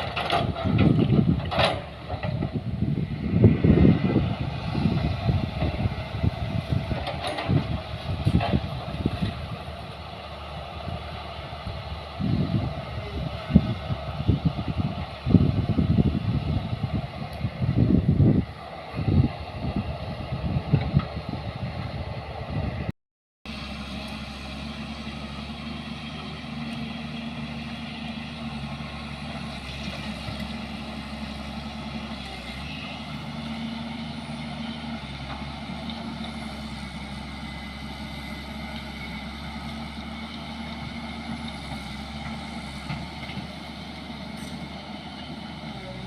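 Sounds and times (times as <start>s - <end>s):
vehicle engine droning: 0.0s - 22.9s, 23.5s - 46.0s.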